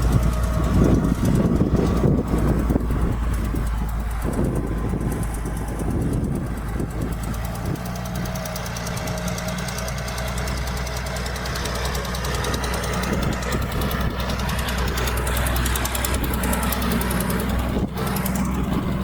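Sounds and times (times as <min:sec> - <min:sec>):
heavy diesel engine clattering: 0:00.0 - 0:19.0.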